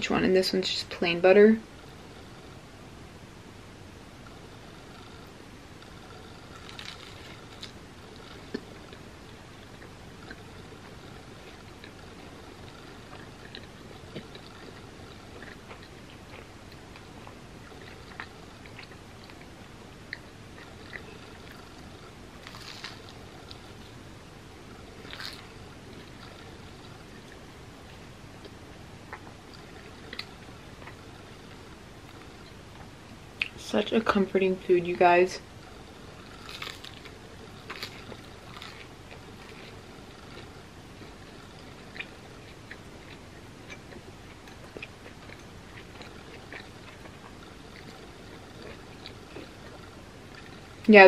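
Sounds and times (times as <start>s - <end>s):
steady low hiss: 0.0s - 51.0s
wet chewing: 4.9s - 24.0s, 24.9s - 33.6s, 36.2s - 50.9s.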